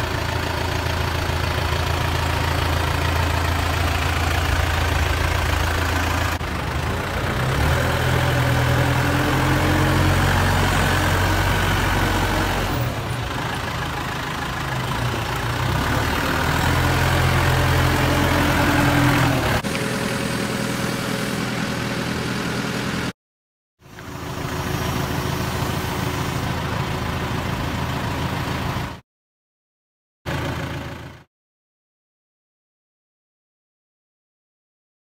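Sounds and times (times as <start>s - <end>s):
tractor diesel engine idling: 0.0s - 23.1s, 23.8s - 29.0s, 30.3s - 31.3s.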